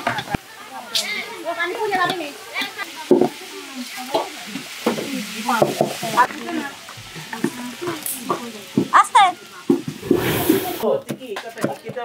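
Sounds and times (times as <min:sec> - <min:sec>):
sizzling hiss: 0:00.0 - 0:10.9
voices talking: 0:00.0 - 0:11.0.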